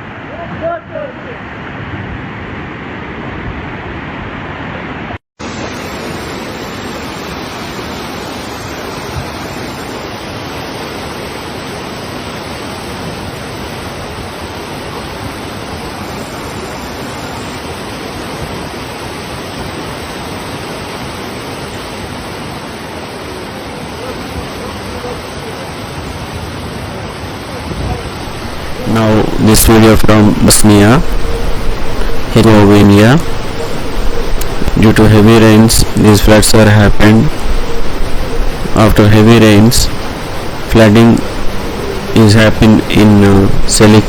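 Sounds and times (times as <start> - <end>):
floodwater rushing: 0.0 - 44.0.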